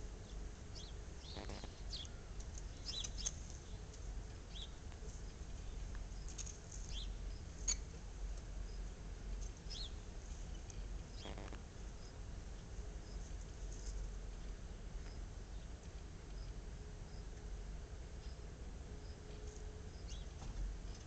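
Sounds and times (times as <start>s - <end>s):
small birds chirping: 0.0s - 8.0s, 8.6s - 12.3s, 13.0s - 17.6s, 18.2s - 21.0s
low steady rumble: 0.0s - 21.0s.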